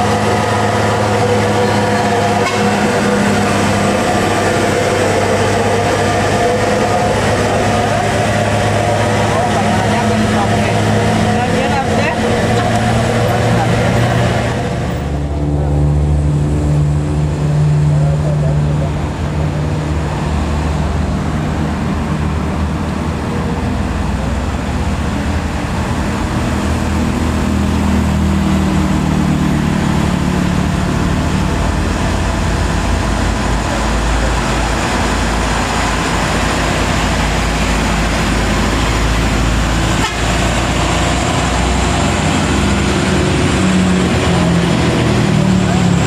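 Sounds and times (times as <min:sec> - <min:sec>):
diesel truck engine labouring: 0:00.0 - 0:46.0
road and tyre noise: 0:00.0 - 0:46.0.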